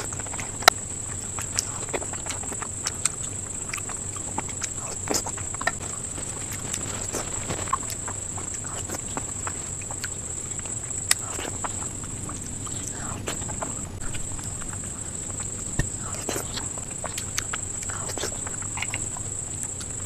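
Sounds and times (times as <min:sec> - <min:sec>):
chewing sweets with mouth clicks: 0:00.0 - 0:20.0
constant high-pitched whine: 0:00.0 - 0:20.0.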